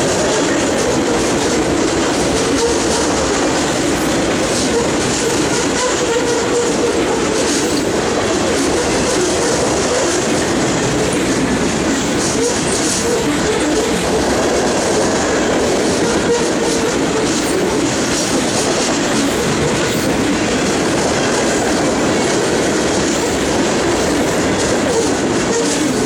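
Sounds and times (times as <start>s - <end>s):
freight train rolling past: 0.0s - 26.0s
train wheels clacking on rails: 0.0s - 26.0s.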